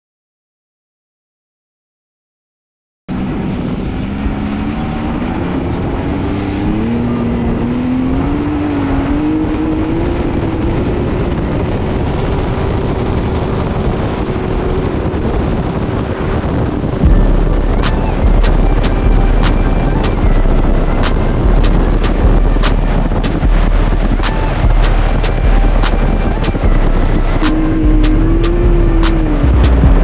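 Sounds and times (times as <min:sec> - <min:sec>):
off-road vehicle engine: 0:03.1 - 0:30.0
wind and dirt noise: 0:03.1 - 0:30.0.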